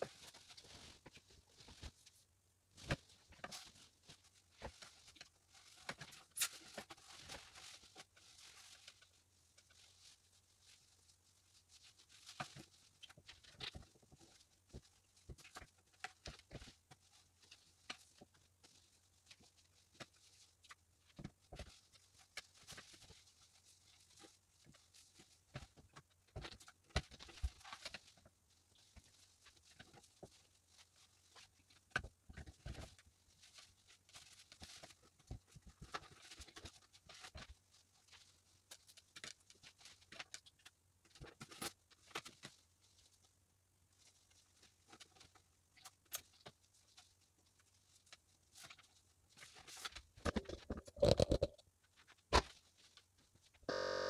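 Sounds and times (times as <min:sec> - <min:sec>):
fabric rustling and crinkling: 0:00.0 - 0:53.6.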